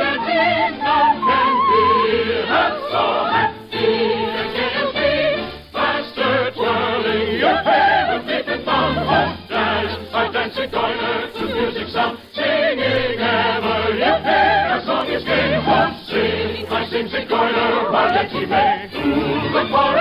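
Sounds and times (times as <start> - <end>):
choir singing with orchestra: 0.0 - 20.0.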